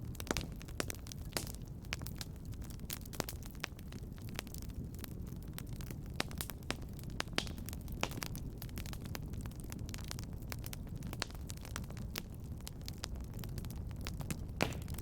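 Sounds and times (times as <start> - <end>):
fire pops and snaps: 0.0 - 15.0
low rumble of flames: 0.0 - 15.0.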